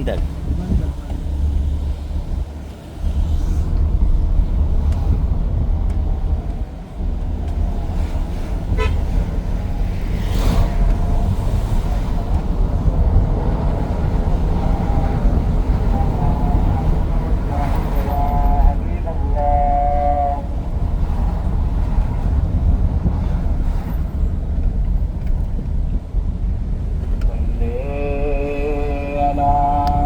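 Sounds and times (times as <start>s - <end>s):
vehicle rumbling: 0.0s - 30.0s.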